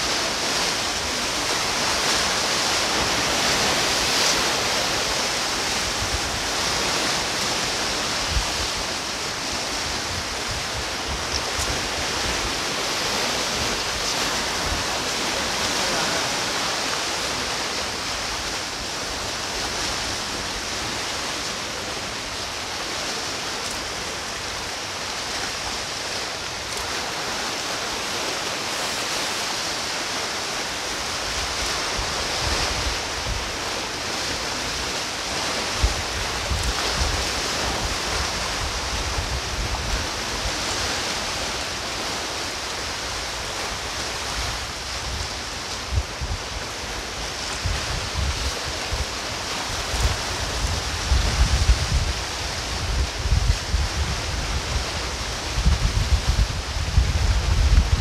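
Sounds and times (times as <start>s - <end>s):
sea waves washing on rocky shore: 0.0s - 58.0s.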